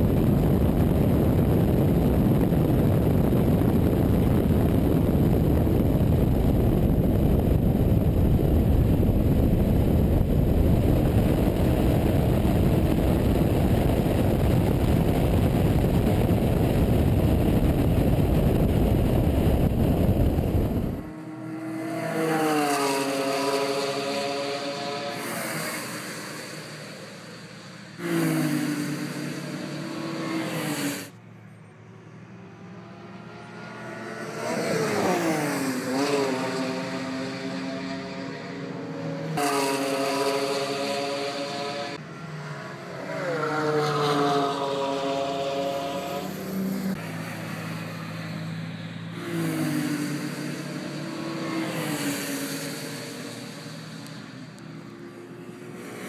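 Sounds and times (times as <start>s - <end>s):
race cars accelerating and passing: 0.0s - 56.0s.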